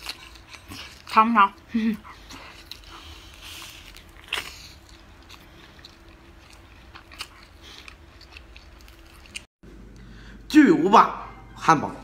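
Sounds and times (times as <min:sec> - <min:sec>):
quiet chewing: 0:00.0 - 0:10.0.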